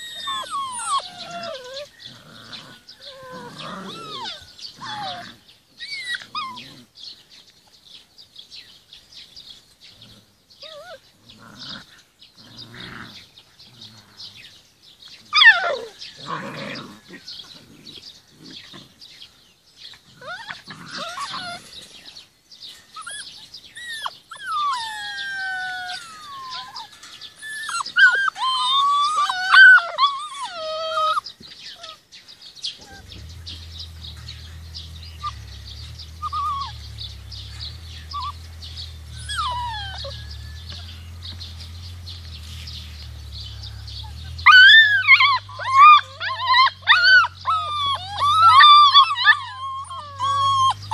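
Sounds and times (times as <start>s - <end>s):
puppies whining and yelping: 0.0s - 6.9s, 10.6s - 11.9s, 15.3s - 18.0s, 19.9s - 32.0s, 32.6s - 50.9s.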